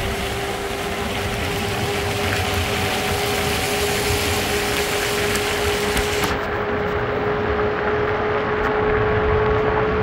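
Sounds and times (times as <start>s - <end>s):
vehicle running with hum: 0.0s - 10.0s.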